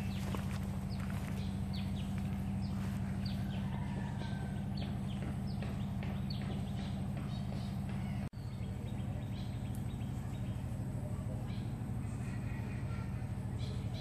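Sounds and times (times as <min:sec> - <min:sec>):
low machine-like hum: 0:00.0 - 0:14.0.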